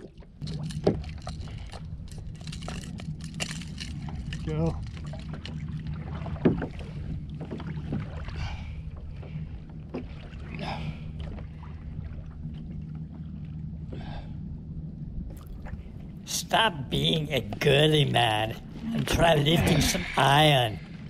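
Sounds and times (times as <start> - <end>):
low rumble: 0.0 - 21.0
water splashing against hull: 0.0 - 21.0.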